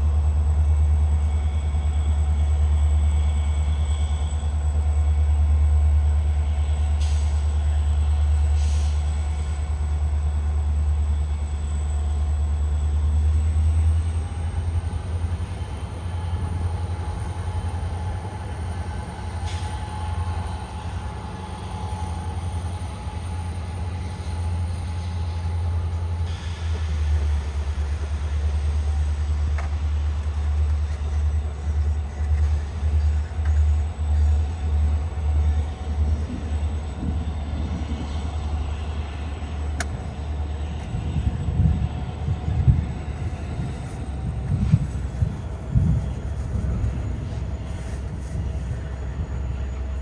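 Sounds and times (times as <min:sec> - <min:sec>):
thin steady whine: 0:00.0 - 0:26.4, 0:27.4 - 0:50.0
locomotive low rumble: 0:00.0 - 0:50.0.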